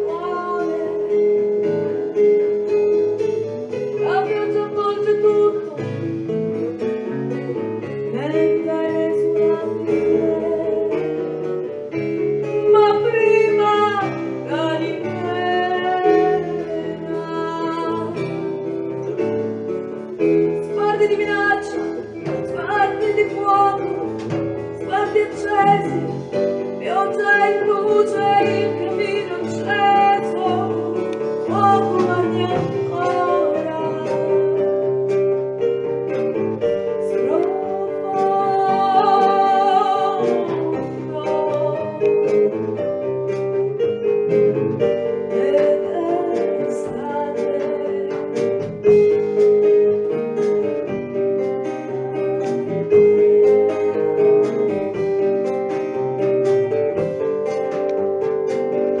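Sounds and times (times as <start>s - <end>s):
acoustic band music: 0.0s - 59.0s
guitar accompaniment: 0.0s - 59.0s.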